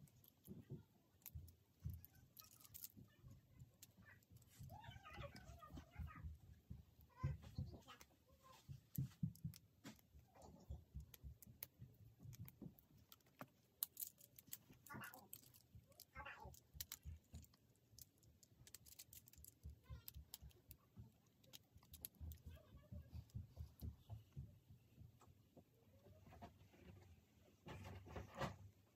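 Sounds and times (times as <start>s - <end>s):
plastic parts clicking and rattling: 0.0s - 24.1s.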